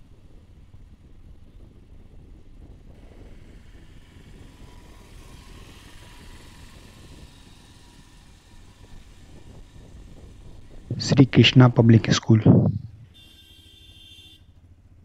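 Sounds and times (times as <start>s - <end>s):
moving vehicle rumble: 0.0s - 15.0s.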